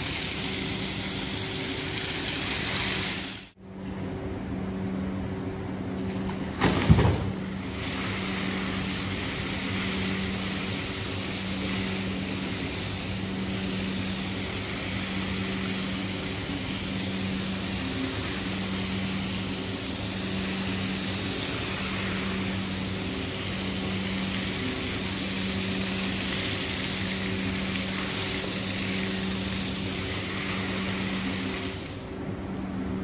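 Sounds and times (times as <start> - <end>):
rug cleaning machine running: 0.0 - 3.6, 5.8 - 33.0.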